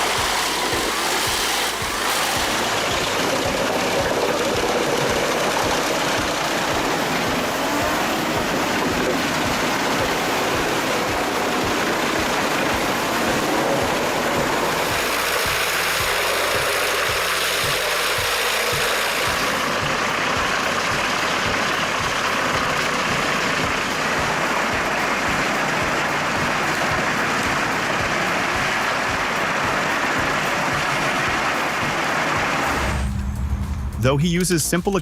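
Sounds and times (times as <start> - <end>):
heavy machinery rushing noise: 0.0 - 35.0.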